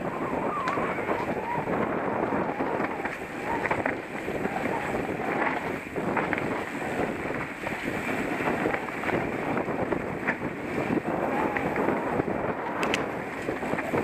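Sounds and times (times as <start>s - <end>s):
bike rattling over bumps: 0.0s - 14.0s
bike tyres crunching over dirt: 0.0s - 14.0s
wind buffeting microphone: 0.0s - 14.0s.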